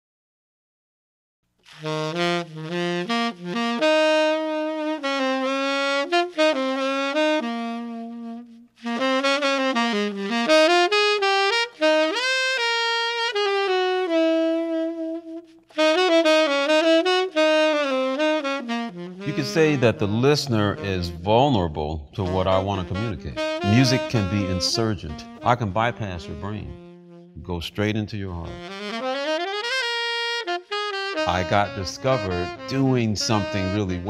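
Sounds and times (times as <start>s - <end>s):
saxophone jazz melody: 1.6s - 34.0s.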